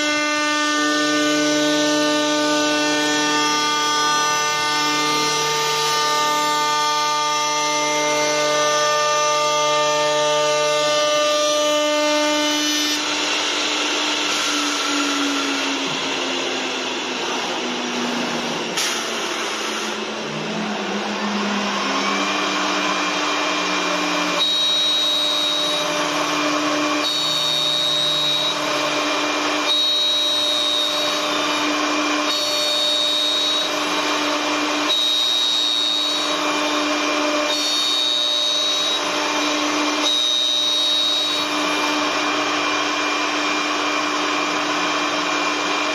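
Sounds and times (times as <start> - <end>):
lathe motor whining: 0.0 - 45.9.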